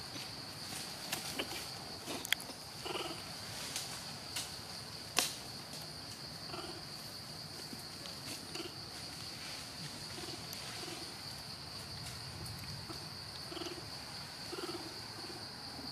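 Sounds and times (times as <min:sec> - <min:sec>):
high insect drone: 0:00.0 - 0:15.9.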